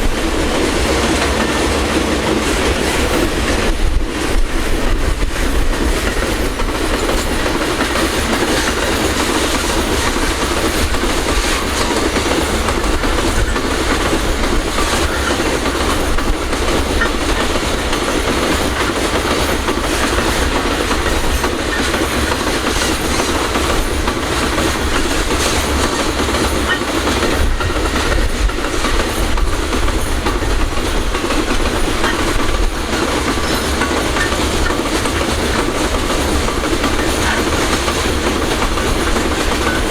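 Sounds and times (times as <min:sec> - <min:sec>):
freight train wagons clattering: 0:00.0 - 0:39.9.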